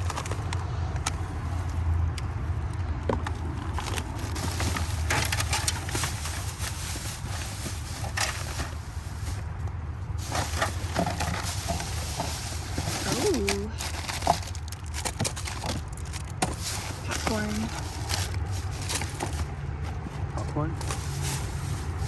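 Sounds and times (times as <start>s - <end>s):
plastic bags rustling and crinkling: 0.0s - 22.0s.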